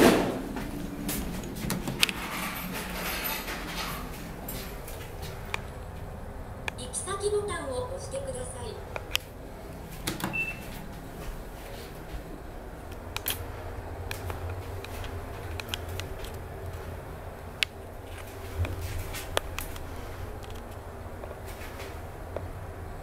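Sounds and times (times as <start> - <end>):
elevator hum: 0.0 - 23.0.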